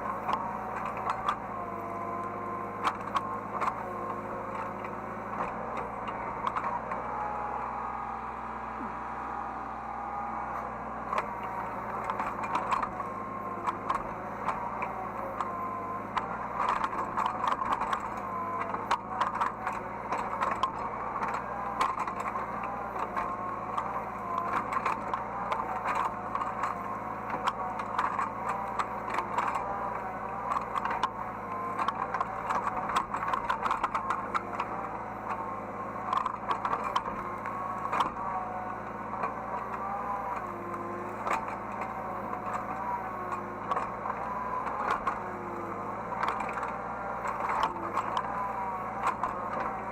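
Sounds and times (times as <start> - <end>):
excavator engine hum: 0.0 - 49.9
rattles and clicks: 0.2 - 7.0, 11.1 - 49.9.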